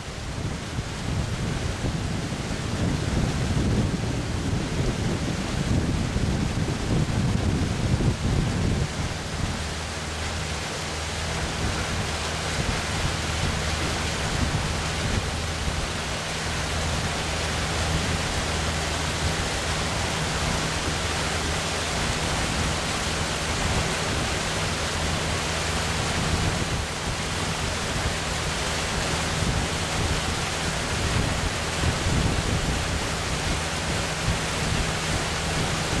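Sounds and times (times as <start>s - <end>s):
water and wind rushing past boat: 0.0s - 36.0s.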